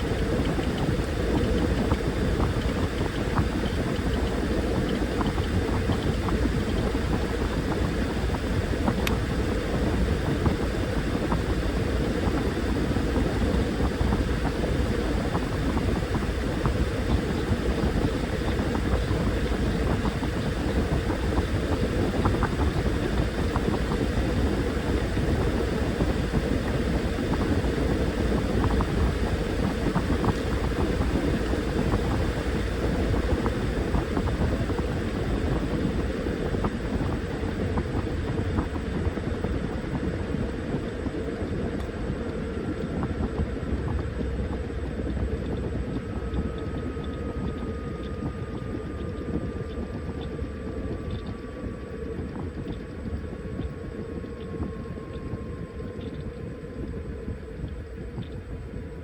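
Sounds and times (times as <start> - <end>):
faint motor whine falling in pitch: 0.0 - 59.0
washing machine rumbling: 0.0 - 59.0.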